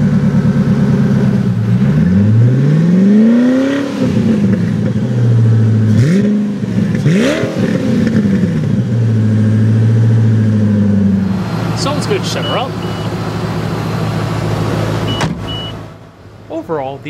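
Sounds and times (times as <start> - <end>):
car engine idling: 0.0 - 2.5, 4.2 - 17.0
car engine revving: 0.0 - 17.0.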